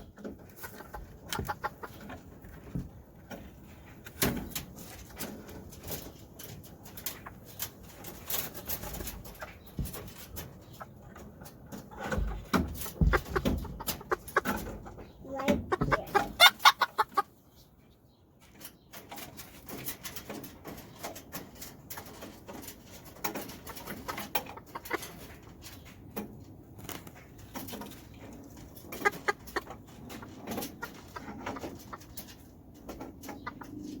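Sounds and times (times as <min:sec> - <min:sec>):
chickens clucking and squawking: 0:00.0 - 0:34.0.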